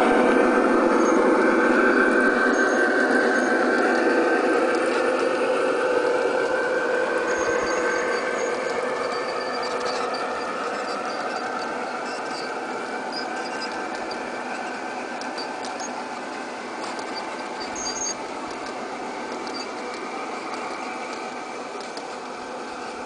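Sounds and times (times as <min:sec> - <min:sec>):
model locomotive humming: 0:00.0 - 0:23.0
wheels clicking on track: 0:00.0 - 0:23.0.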